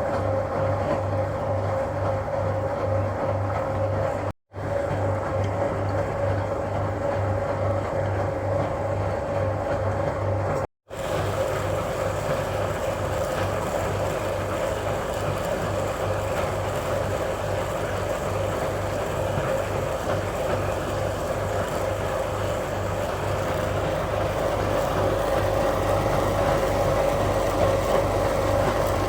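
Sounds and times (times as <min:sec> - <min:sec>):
washing machine humming and pulsing: 0:00.0 - 0:29.0.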